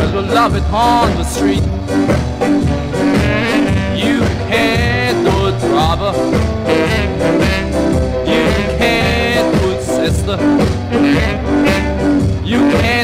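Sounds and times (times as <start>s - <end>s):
ska music: 0.0s - 13.0s.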